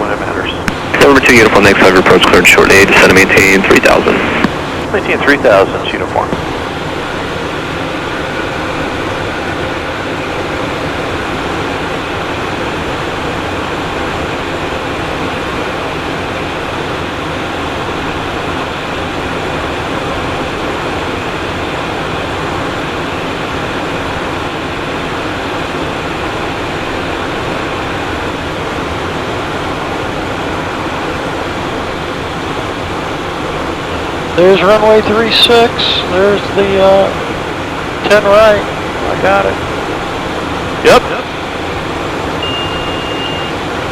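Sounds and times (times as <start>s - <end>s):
jet engines humming: 0.0s - 43.9s.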